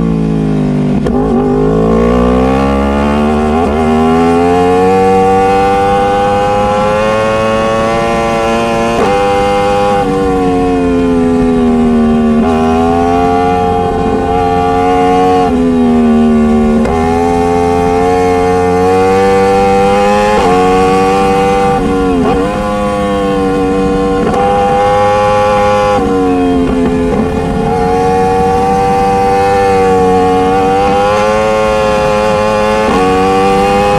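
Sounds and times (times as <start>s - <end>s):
motorcycle engine changing gear: 0.0s - 33.9s.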